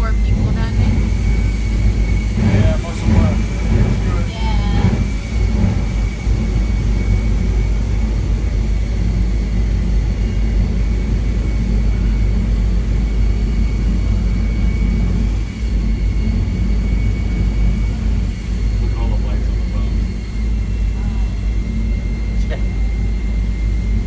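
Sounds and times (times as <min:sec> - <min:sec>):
jet engine rumble and whine: 0:00.0 - 0:24.0.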